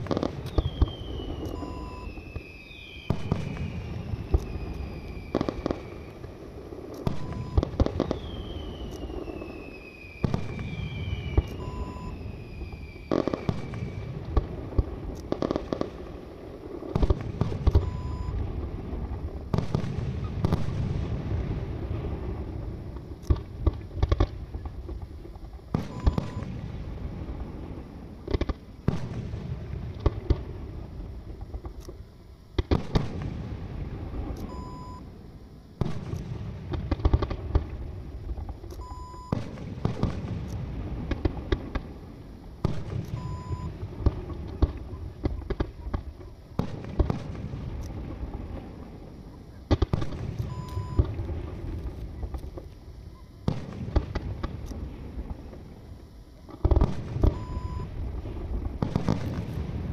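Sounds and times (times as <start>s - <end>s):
fireworks bursting with bangs: 0.0s - 59.9s.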